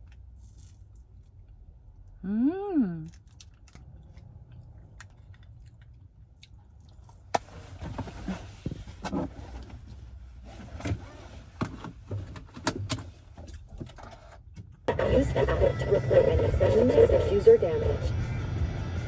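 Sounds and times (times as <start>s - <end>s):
car engine rumble: 3.4s - 19.0s.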